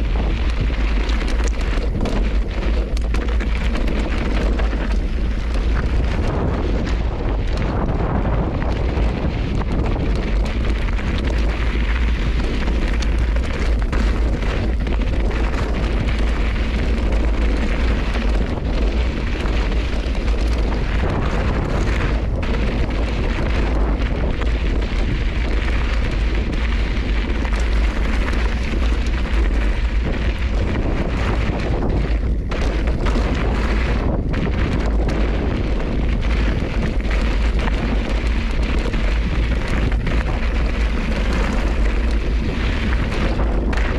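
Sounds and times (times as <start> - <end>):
bike rattling over rocks: 0.0 - 43.9
wind buffeting microphone: 0.0 - 43.9.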